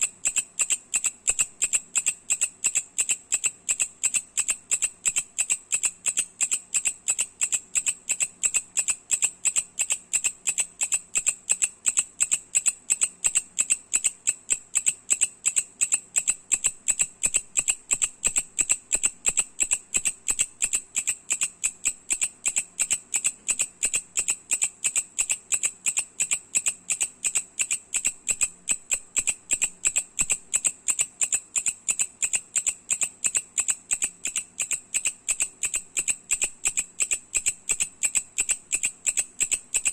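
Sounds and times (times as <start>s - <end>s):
katydid ticking call: 0.0s - 39.9s.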